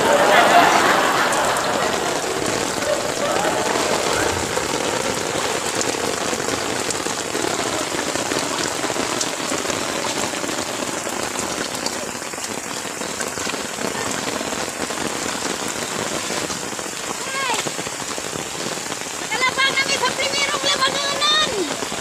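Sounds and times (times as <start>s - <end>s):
raindrops ticking on surface: 0.0s - 22.0s
steady rain falling: 0.0s - 22.0s.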